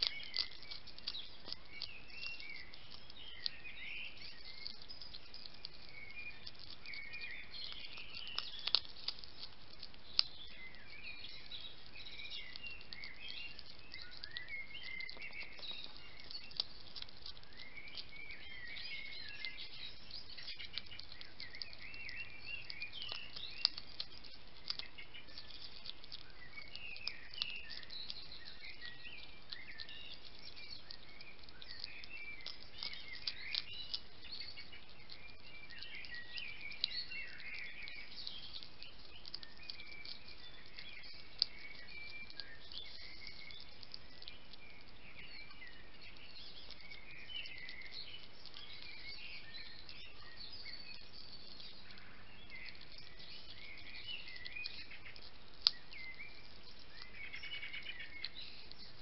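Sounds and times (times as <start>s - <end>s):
food crunching against dish: 0.0s - 59.0s
hedgehog chewing and smacking: 0.0s - 59.0s.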